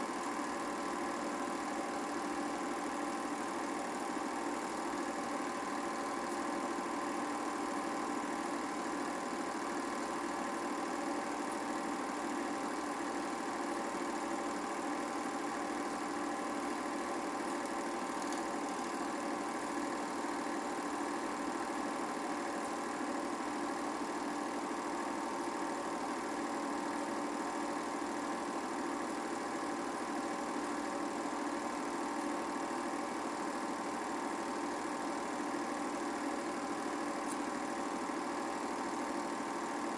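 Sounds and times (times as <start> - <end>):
film projector humming: 0.0 - 39.9.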